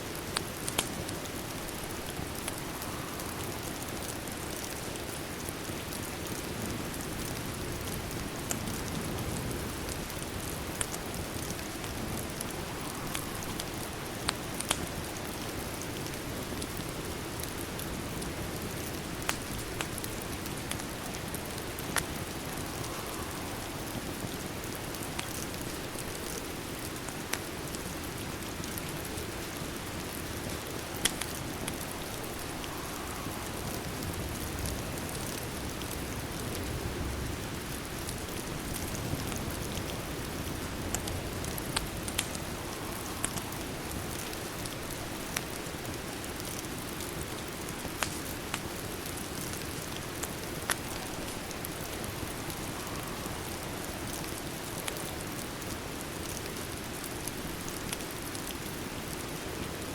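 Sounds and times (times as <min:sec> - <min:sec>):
steady rain hiss: 0:00.0 - 0:59.9
wood fire crackles: 0:00.0 - 0:59.9.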